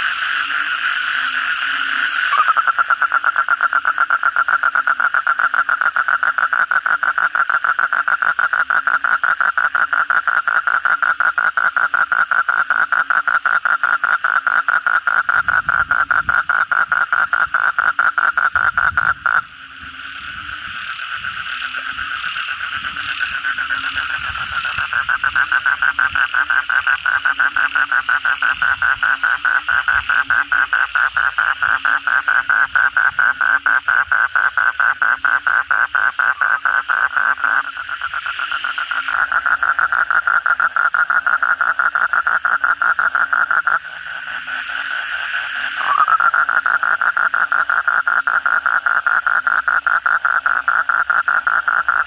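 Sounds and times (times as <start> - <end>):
toad pulsing trill: 0.0 - 52.0.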